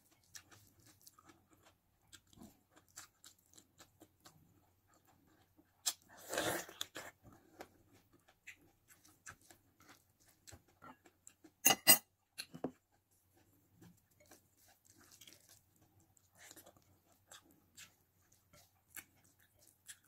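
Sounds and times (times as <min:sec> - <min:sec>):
person chewing: 0:00.0 - 0:20.0.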